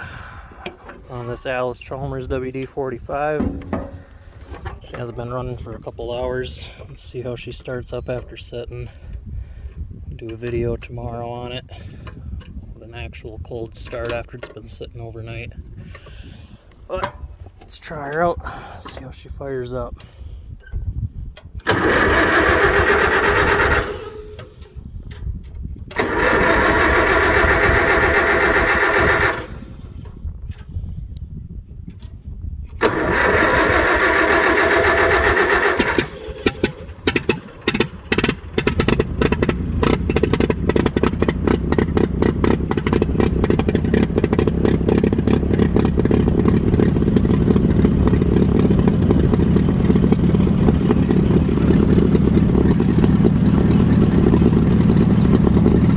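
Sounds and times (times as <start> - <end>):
tractor engine running: 0.0 - 30.8, 31.9 - 55.9
starter cranking tractor engine: 0.0 - 31.0, 31.9 - 55.9.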